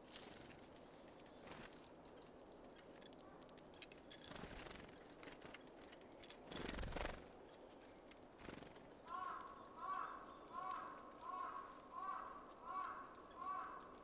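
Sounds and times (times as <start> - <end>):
small songbirds calling: 0.0 - 14.0
light clicks and taps: 0.1 - 6.5, 7.5 - 14.0.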